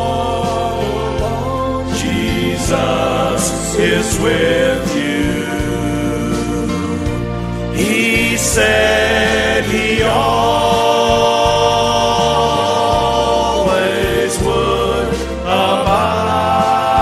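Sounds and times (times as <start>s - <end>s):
instrumental backing with bass: 0.0s - 17.0s
male vocal trio singing: 0.0s - 17.0s.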